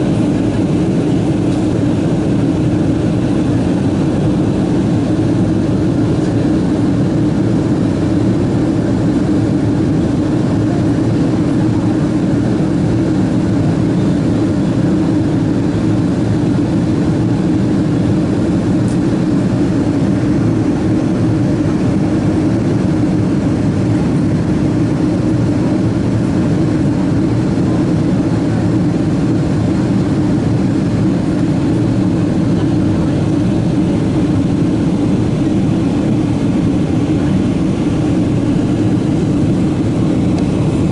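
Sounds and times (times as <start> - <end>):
airliner cabin drone: 0.0 - 40.9.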